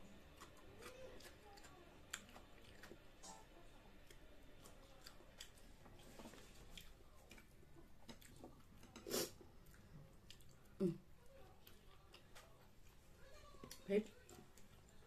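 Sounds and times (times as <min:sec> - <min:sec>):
soft eating noises: 0:00.0 - 0:15.0.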